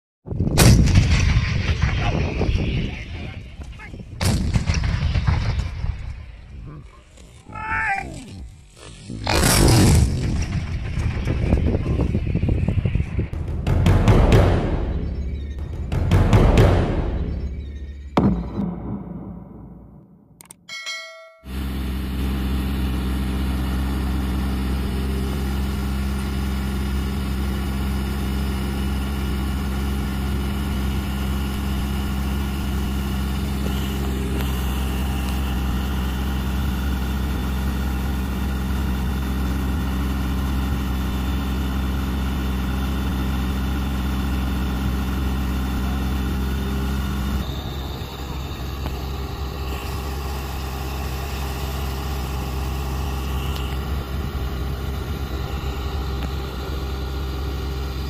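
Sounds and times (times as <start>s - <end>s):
diesel truck engine idling: 8.4s - 20.5s, 21.5s - 58.0s.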